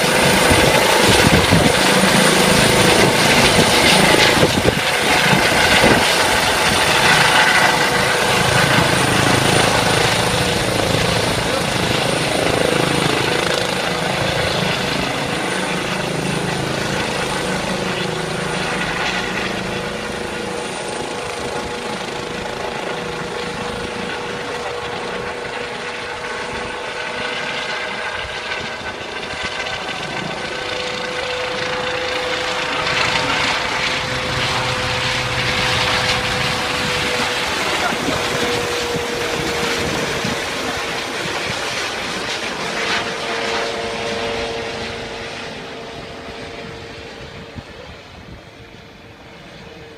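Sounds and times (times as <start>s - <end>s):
helicopter rotor and engine: 0.0s - 49.9s
steady whine: 0.0s - 49.9s.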